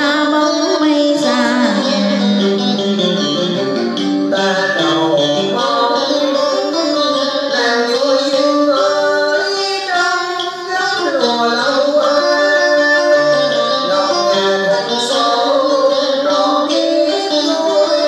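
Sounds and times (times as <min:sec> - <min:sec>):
slow melody with wavering note: 0:00.0 - 0:18.0.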